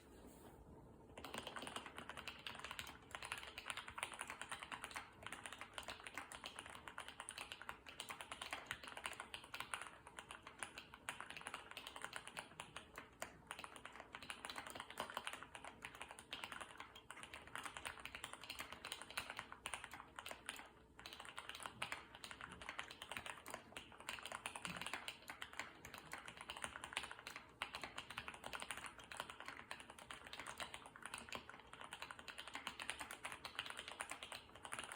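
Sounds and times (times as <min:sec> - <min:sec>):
mechanical keyboard typing: 0:01.2 - 0:34.9.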